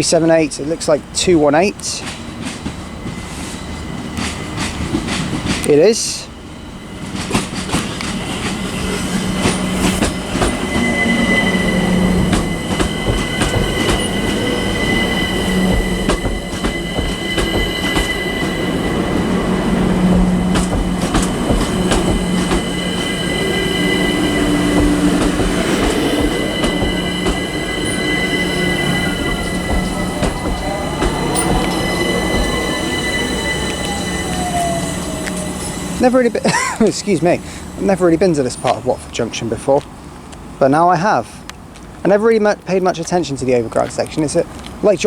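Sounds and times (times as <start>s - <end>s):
high wheel squeal: 0.0s - 41.5s
train whine: 0.0s - 45.0s
wheels clicking over rail joints: 0.0s - 45.0s.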